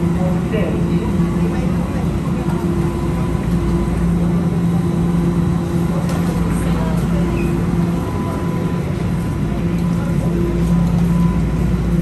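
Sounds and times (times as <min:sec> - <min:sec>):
subway car rumble: 0:00.0 - 0:12.0
train humming tone: 0:00.0 - 0:12.0.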